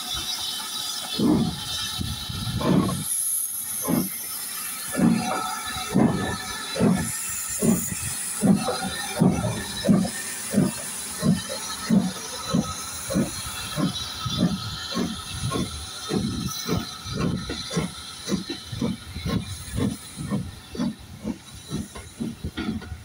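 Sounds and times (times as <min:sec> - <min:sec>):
steady hiss of steam: 0:00.0 - 0:23.0
steam locomotive exhaust beats: 0:00.0 - 0:23.0.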